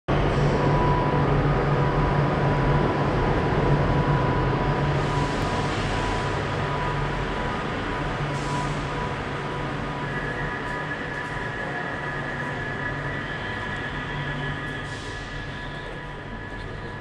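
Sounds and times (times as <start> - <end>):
faint high whine: 0.1 - 17.0
train hum: 0.1 - 17.0.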